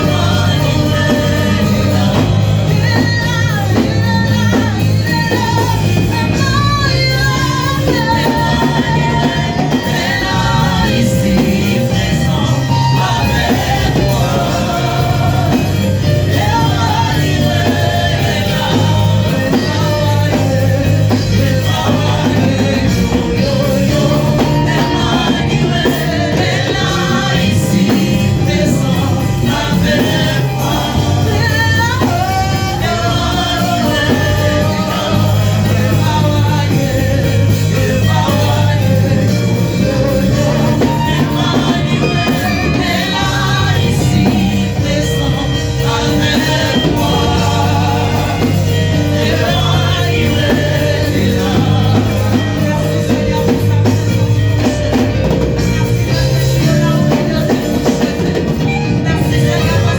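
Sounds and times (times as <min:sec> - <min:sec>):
gospel singing with band: 0:00.0 - 0:59.9
steady bass line: 0:00.0 - 0:59.9.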